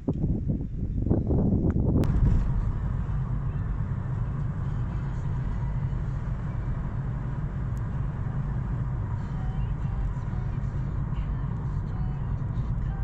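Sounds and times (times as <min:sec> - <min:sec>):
vehicle engine humming: 0:01.5 - 0:13.0.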